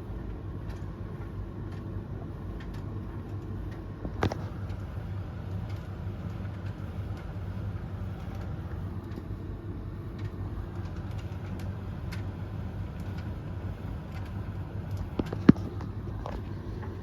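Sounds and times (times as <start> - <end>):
tumble dryers running: 0.0 - 17.0.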